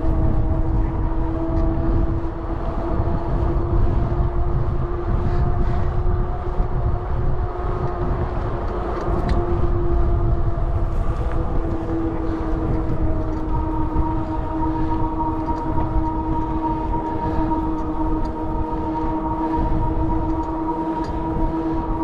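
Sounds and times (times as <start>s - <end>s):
steady droning hum: 0.0s - 22.0s
wind rushing over microphone: 0.0s - 22.0s.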